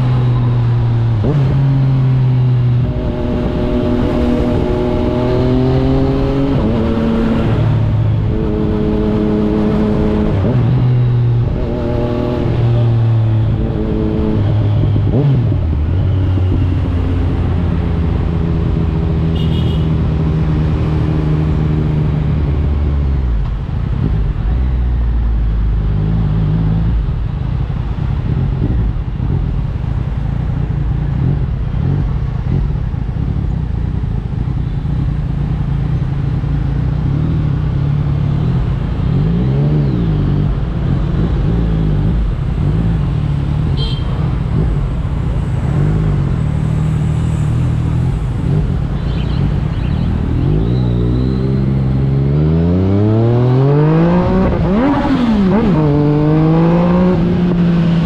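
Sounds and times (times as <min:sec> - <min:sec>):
motorcycle engine revving: 0:00.0 - 0:23.4, 0:30.7 - 0:58.0.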